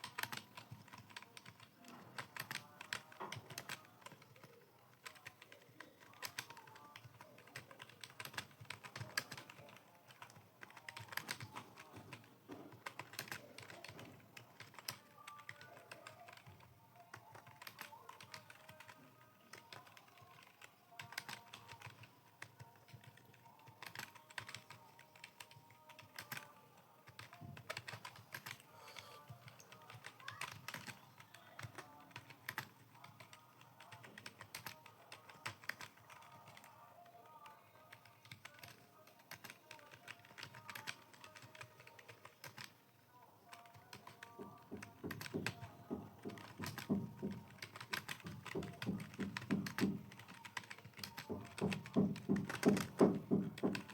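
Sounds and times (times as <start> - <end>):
computer keyboard key clicks: 0.0 - 12.2, 17.2 - 26.5, 27.1 - 28.6, 29.2 - 36.7, 38.0 - 42.8, 43.5 - 53.9.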